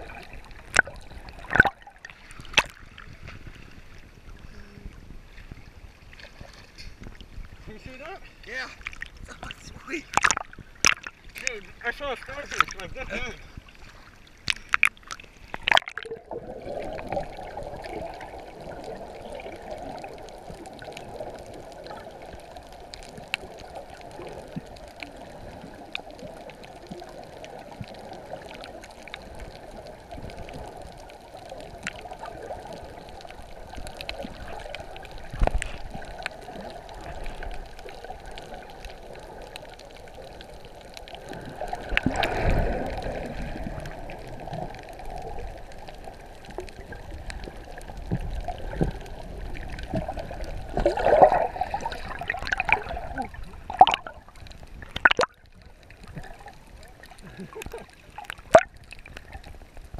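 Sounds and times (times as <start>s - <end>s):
small underwater clicks: 0.0s - 3.6s, 8.8s - 9.5s, 10.1s - 11.7s, 12.4s - 12.9s, 13.7s - 59.9s
muffled underwater rushing: 0.0s - 59.9s.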